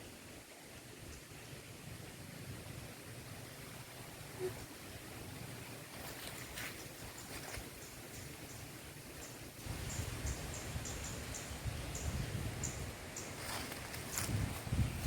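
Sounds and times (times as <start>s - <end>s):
outdoor ambience: 0.0s - 15.0s.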